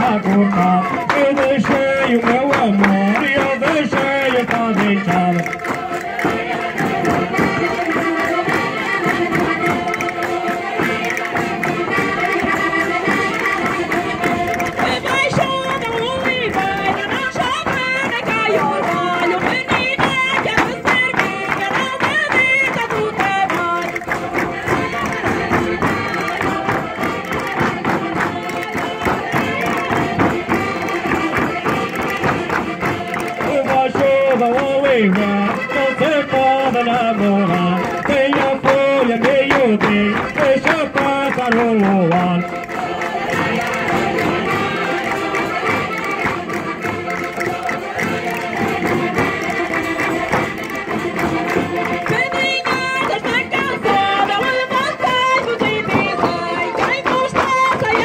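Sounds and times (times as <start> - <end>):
live folk dance music: 0.0 - 58.0
singing voices: 0.0 - 58.0.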